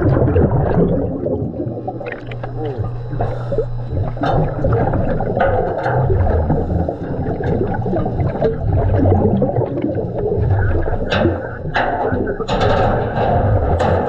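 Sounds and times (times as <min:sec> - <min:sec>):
low wavering rumble: 0:00.0 - 0:14.0
underwater bubbling from diver's breathing: 0:00.0 - 0:14.0
sharp clicks and knocks: 0:01.8 - 0:14.0.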